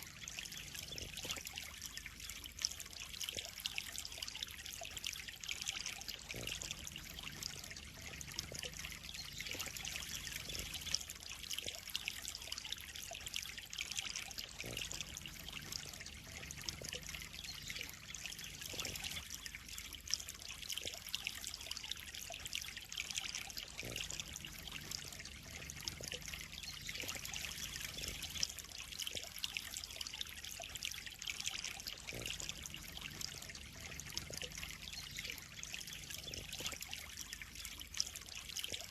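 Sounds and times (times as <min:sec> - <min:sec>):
small water splashes: 0:00.0 - 0:38.9
water trickling into pond: 0:00.0 - 0:38.9.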